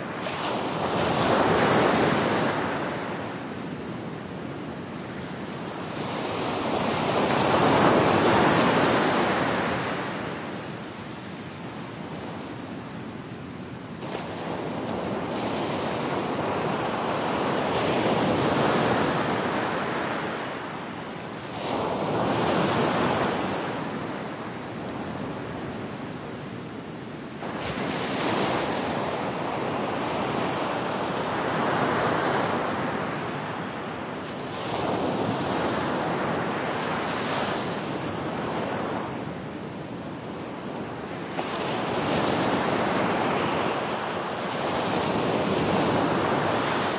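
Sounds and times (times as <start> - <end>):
ocean waves washing ashore: 0.0 - 46.9.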